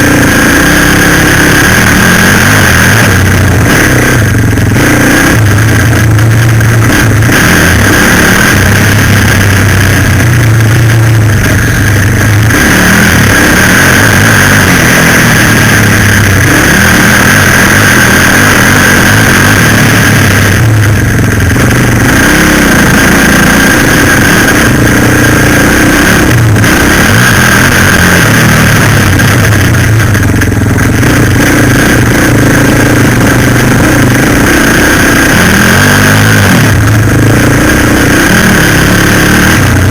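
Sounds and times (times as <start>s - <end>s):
constant rushing noise: 0.0s - 39.9s
quad bike engine running: 0.0s - 39.9s.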